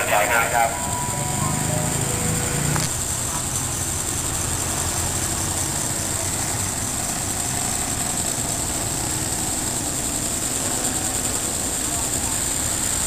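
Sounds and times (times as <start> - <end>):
engine idling: 0.0 - 13.0
high-pitched hiss: 0.0 - 13.0.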